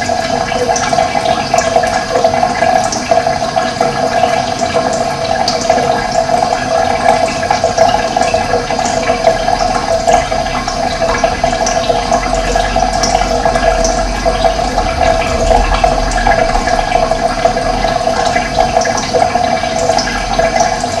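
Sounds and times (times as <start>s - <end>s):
running water: 0.0s - 21.0s.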